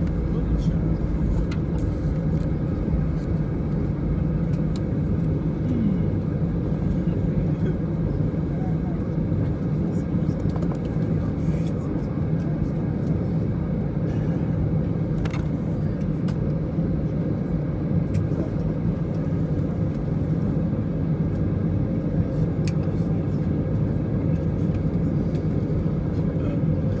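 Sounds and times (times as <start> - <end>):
aircraft cabin engine rumble: 0.0 - 27.0.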